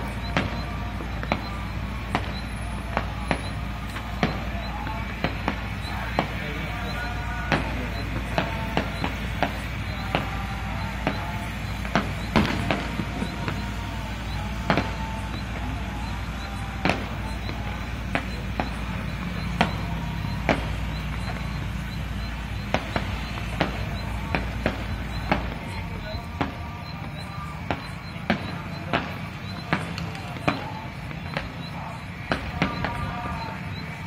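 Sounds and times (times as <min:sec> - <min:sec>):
fireworks bangs and cracks: 0:00.0 - 0:34.0.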